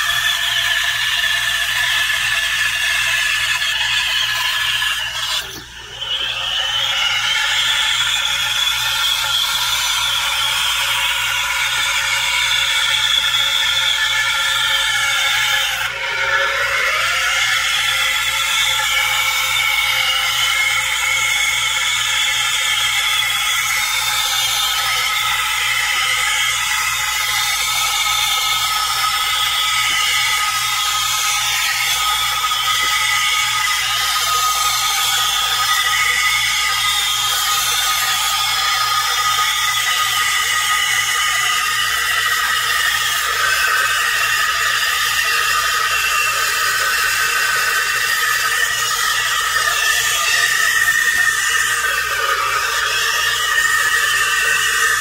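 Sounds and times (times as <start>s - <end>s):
high-pitched whistling: 0.0s - 55.0s
steam wand hissing: 0.0s - 55.0s.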